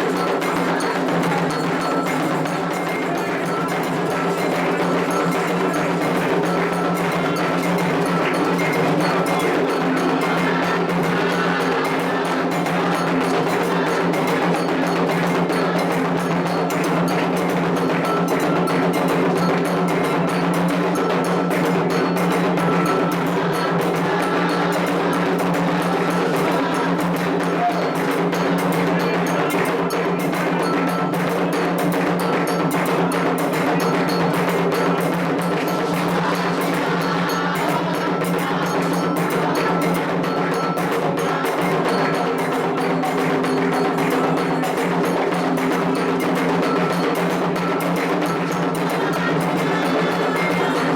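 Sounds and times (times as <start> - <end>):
hand drums playing fast rhythm: 0.0 - 50.9
metal bell beating: 0.0 - 50.9.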